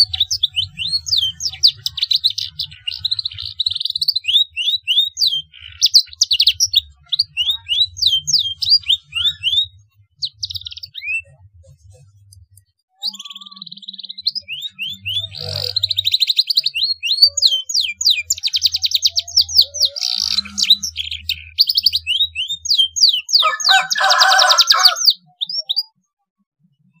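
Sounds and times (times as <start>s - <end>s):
canary singing trills and whistles: 0.0s - 11.6s, 12.9s - 26.0s.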